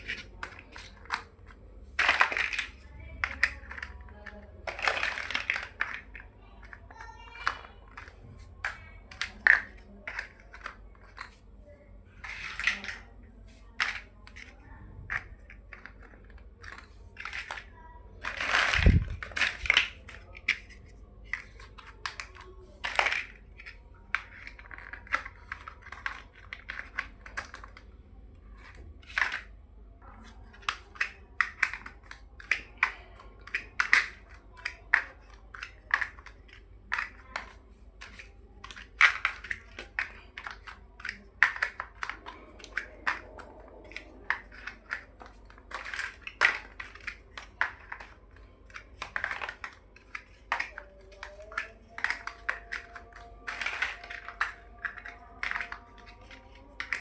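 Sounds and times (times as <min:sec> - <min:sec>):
plastic bricks clicking: 0:00.0 - 0:57.0.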